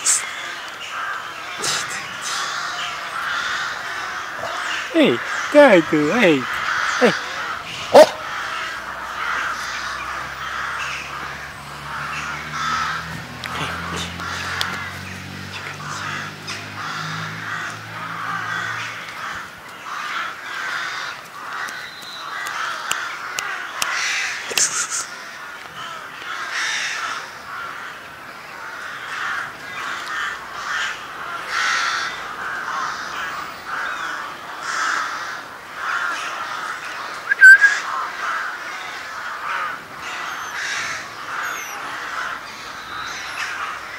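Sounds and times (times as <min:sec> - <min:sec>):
crows cawing: 0:00.0 - 0:24.5, 0:25.2 - 0:43.9.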